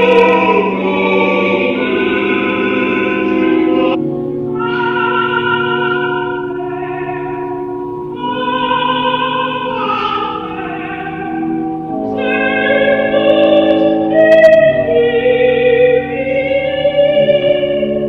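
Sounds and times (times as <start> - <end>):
slow background music: 0.0 - 18.0.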